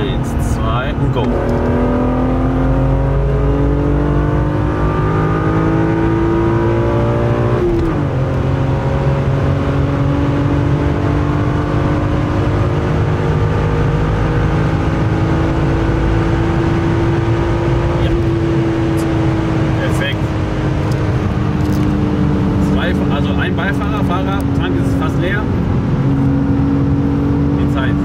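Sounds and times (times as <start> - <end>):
car engine at full throttle: 0.0 - 28.0.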